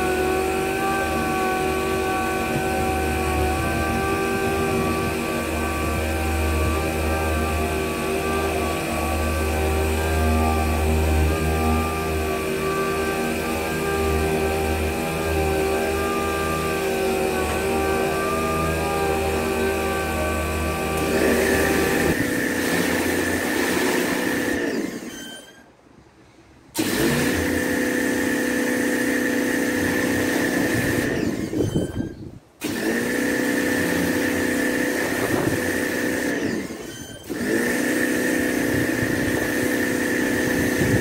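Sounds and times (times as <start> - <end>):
pressure washer running: 0.0 - 25.3, 26.7 - 32.0, 32.6 - 41.0
motor winding down: 0.0 - 25.6, 26.8 - 41.0.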